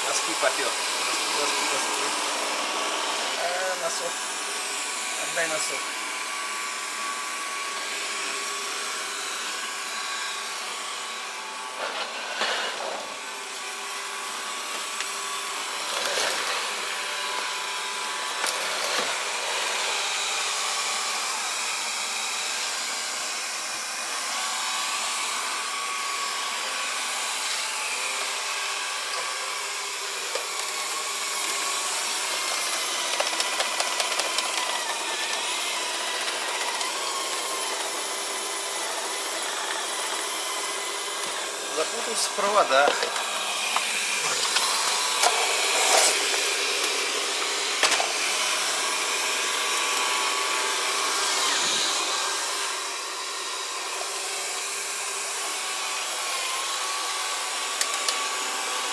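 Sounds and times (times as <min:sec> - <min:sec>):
robot vacuum whirring: 0:00.0 - 0:58.9.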